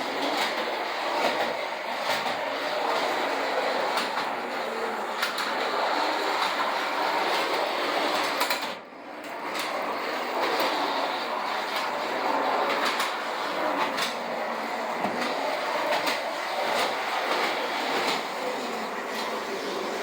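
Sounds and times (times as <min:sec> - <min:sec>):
toy trolley motor whirring: 0:00.0 - 0:20.0.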